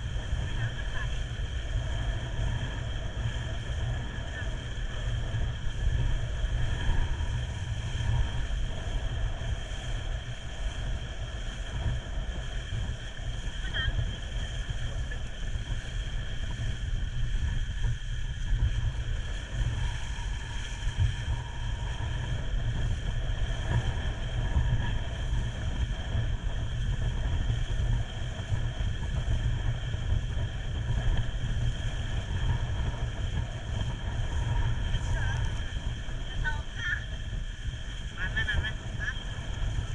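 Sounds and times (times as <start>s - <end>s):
boat engine rumbling: 0.0s - 39.9s
wind buffeting microphone: 0.0s - 39.9s.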